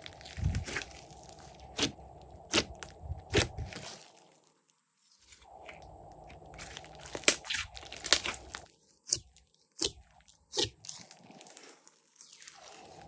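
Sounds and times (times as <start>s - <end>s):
slime crackling and popping: 0.0s - 4.5s, 6.4s - 12.8s.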